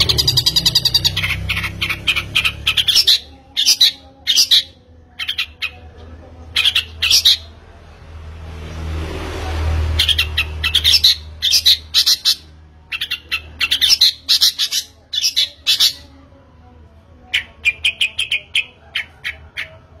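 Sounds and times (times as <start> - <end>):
bird chirping and squawking: 0.0 - 7.6, 9.9 - 16.2, 17.3 - 20.0.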